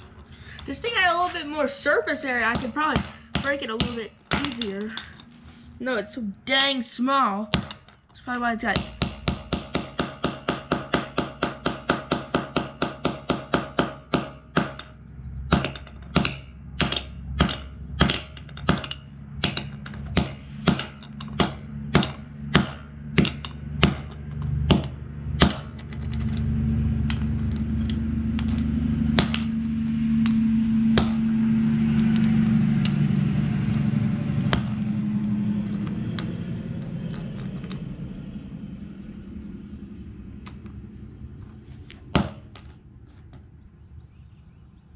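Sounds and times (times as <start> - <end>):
low drone: 8.8 - 44.9.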